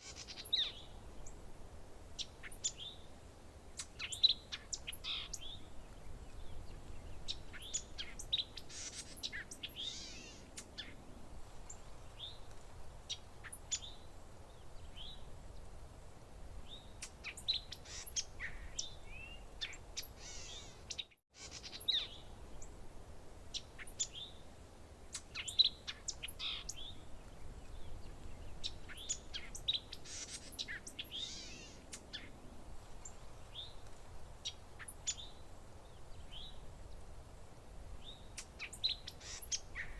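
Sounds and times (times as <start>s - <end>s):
faint low background hiss: 0.0s - 39.9s.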